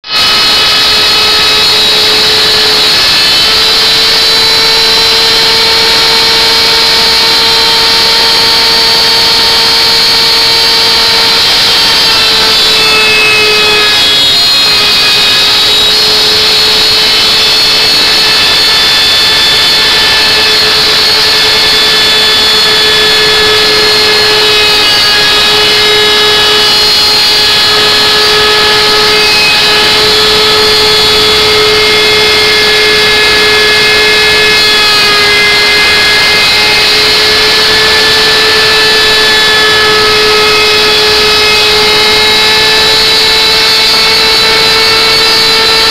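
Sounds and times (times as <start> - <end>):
wood router whining: 0.0 - 45.9.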